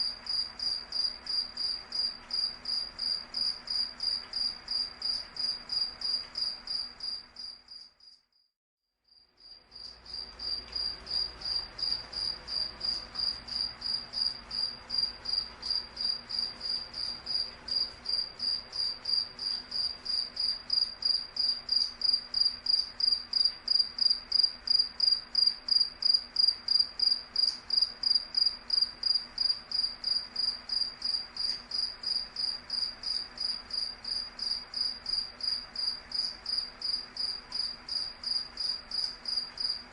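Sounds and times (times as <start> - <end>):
cricket chirping: 0.0 - 8.5, 9.1 - 39.9.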